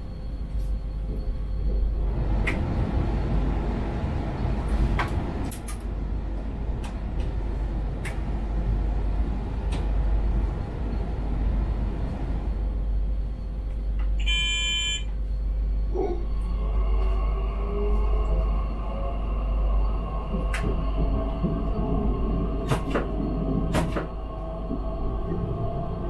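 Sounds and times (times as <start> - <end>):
train wheels rumbling on rails: 0.0 - 14.2, 15.4 - 26.0
low hum: 0.0 - 26.0.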